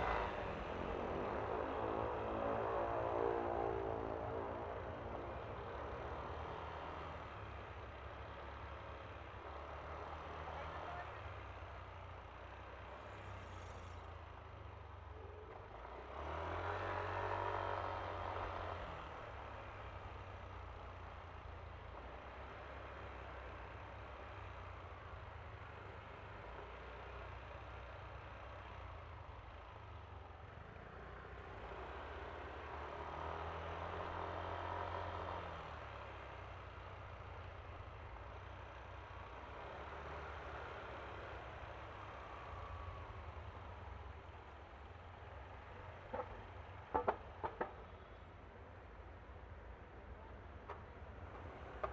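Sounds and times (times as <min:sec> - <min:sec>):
road and wind noise: 0:00.0 - 0:51.9.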